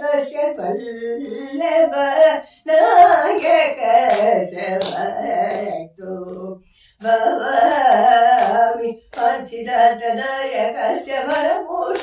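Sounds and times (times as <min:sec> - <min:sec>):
woman singing: 0:00.0 - 0:12.0.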